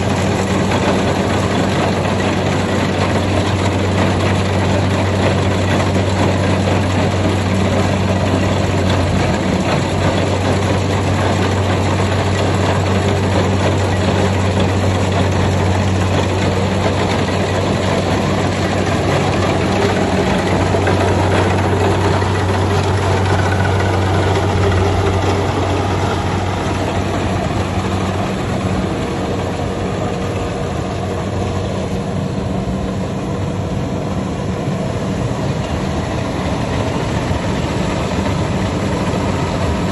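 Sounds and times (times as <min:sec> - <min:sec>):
combine harvester engine hum: 0:00.0 - 0:39.9
dense mechanical rush: 0:00.0 - 0:39.9.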